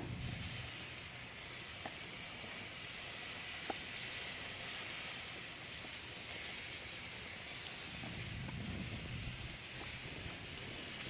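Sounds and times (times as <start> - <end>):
chicken sizzling on a grill: 0.0 - 11.0.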